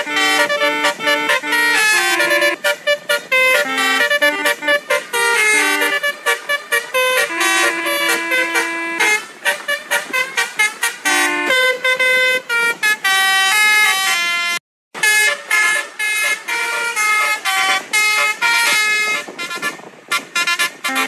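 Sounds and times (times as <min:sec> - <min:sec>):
multi-tone bus horn melody: 0:00.0 - 0:21.0.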